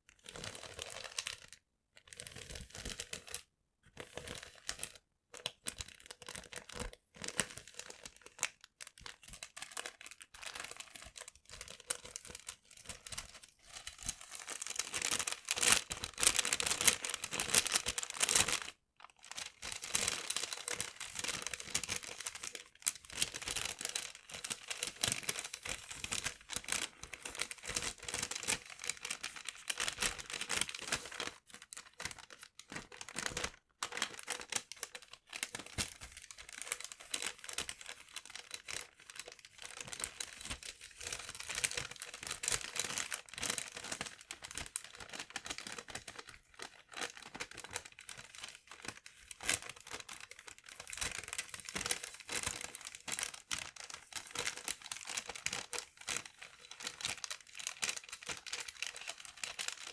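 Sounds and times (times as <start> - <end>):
paper being crumpled: 11.9 - 59.9.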